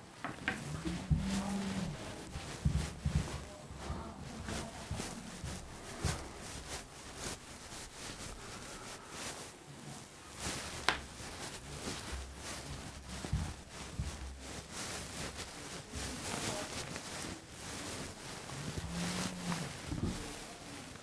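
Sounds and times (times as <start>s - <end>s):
duster wiping a whiteboard: 0.5s - 21.0s.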